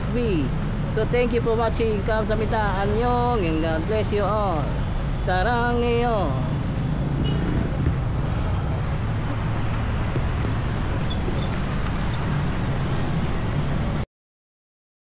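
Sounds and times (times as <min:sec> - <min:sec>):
rumble of passing vehicles: 0:00.0 - 0:14.1.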